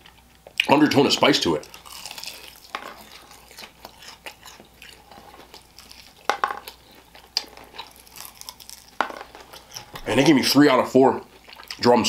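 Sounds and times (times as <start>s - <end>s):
chewing crispy fried chicken: 0.0s - 10.5s, 11.2s - 12.0s.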